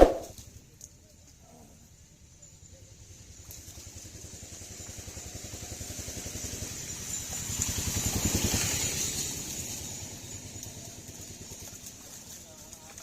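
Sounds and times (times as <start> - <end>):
small engine passing by: 2.2 - 13.0.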